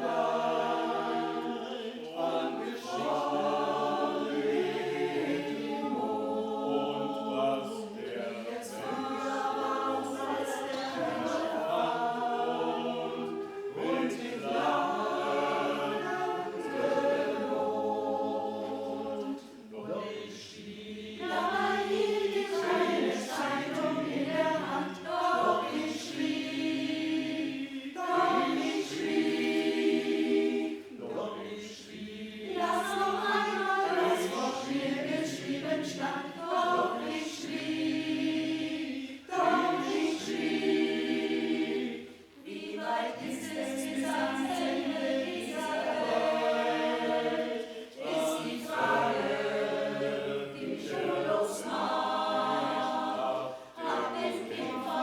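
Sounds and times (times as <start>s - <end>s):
choir singing a ballad: 0.0s - 55.0s.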